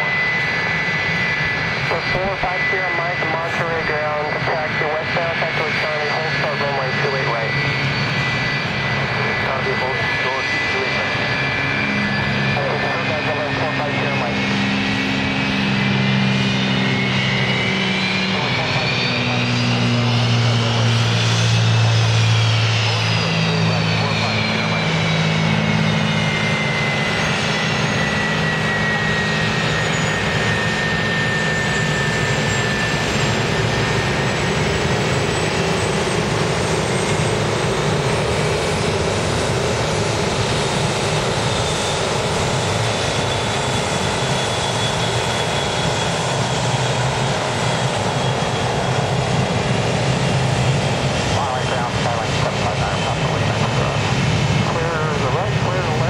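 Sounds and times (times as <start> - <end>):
high jet whine: 0.0 - 56.0
jet engine roar: 0.0 - 56.0.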